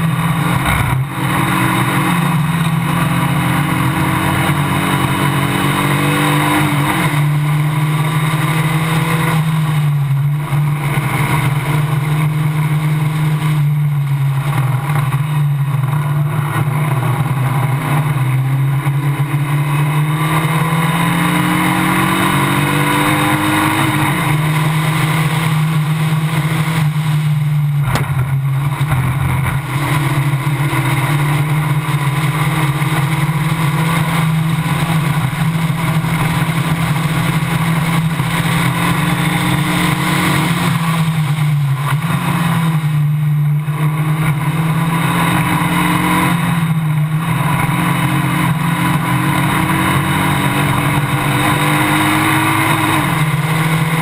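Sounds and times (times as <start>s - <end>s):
racing car engine revving: 0.0s - 54.0s
wind and road noise: 0.0s - 54.0s.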